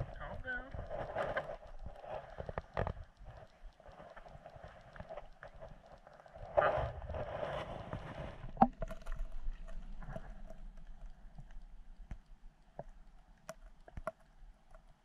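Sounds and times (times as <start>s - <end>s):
sharp underwater clicks: 0.0s - 15.0s.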